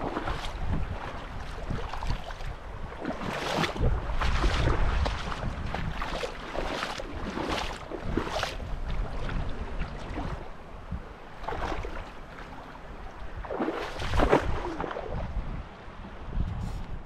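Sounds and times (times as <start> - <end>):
water rushing and splashing: 0.0 - 16.2
wind rumbling on microphone: 0.0 - 17.0.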